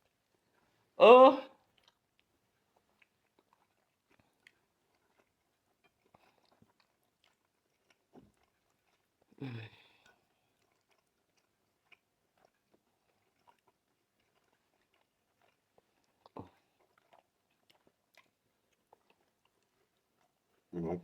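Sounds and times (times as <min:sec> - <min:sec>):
chewing: 0:00.0 - 0:01.0, 0:01.6 - 0:21.0.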